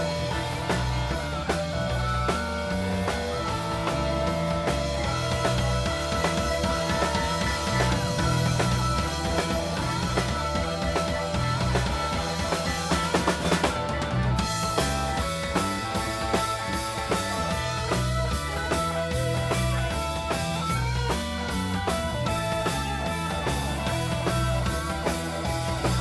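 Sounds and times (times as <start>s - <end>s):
live rock band playing: 0.0s - 26.0s
rapid drum hits: 0.0s - 26.0s.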